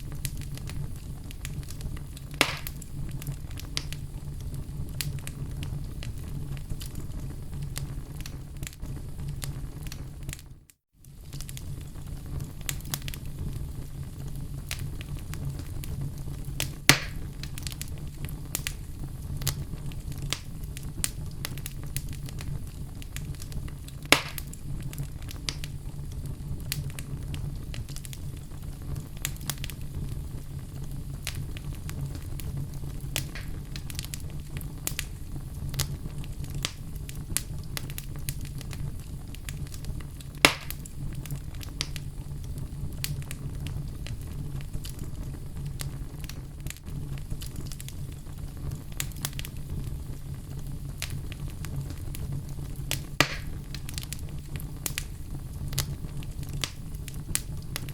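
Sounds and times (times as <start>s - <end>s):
log fire crackling: 0.0s - 57.9s
sharp fire pops: 0.0s - 57.9s.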